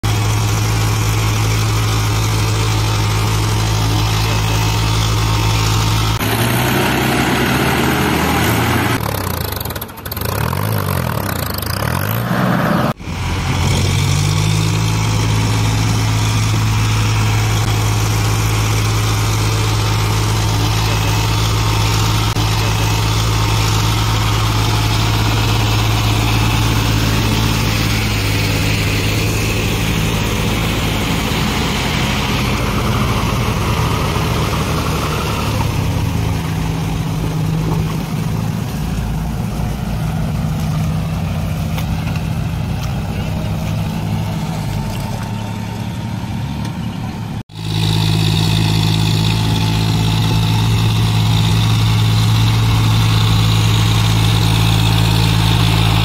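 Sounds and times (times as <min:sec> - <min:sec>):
tractor diesel engines running: 0:00.0 - 0:56.0.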